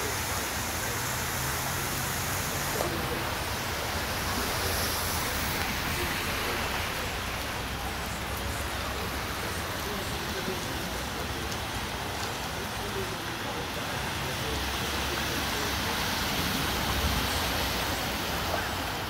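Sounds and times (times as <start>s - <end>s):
car tyres splashing water: 0.0s - 19.0s
heavy rain falling: 0.0s - 19.0s.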